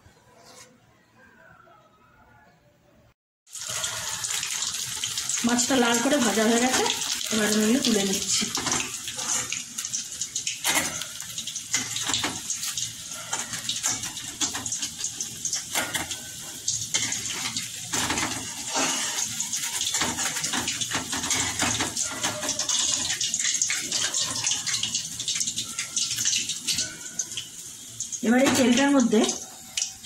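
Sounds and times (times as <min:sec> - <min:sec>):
hot oil sizzling and popping: 0:03.5 - 0:30.0.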